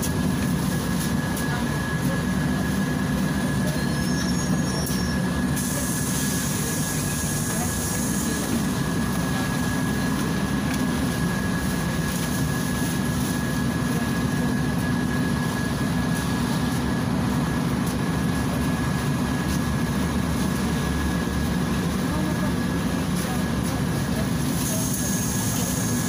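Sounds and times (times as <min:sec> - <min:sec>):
bus engine idling: 0:00.0 - 0:26.0
thin steady whine: 0:00.0 - 0:26.0.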